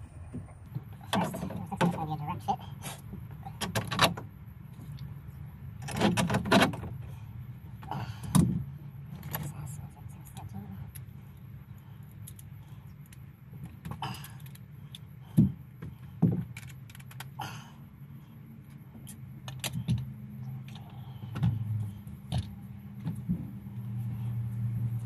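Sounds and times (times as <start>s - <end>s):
low hum: 0.0s - 3.6s, 6.9s - 25.0s.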